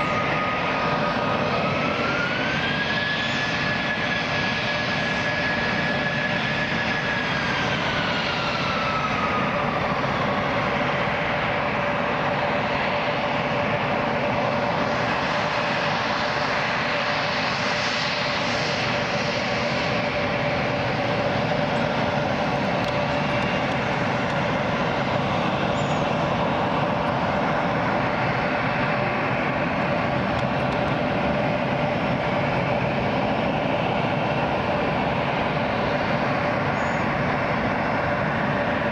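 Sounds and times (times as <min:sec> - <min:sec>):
aircraft engines whining: 0:00.0 - 0:38.9.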